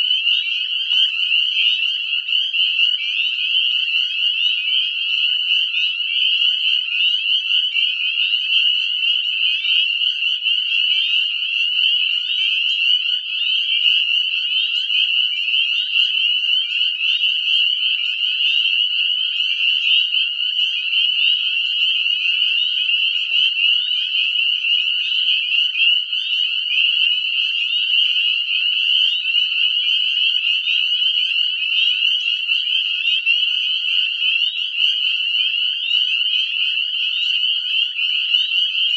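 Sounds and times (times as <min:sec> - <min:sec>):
frogs peeping chorus: 0:00.0 - 0:38.9.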